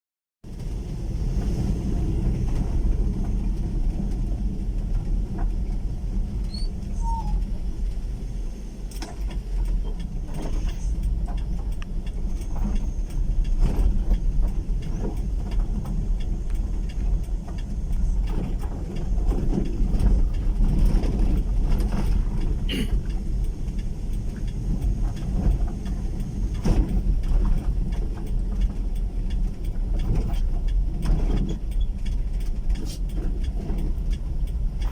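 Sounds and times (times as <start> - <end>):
vehicle rumbling on rough road: 0.4 - 34.9.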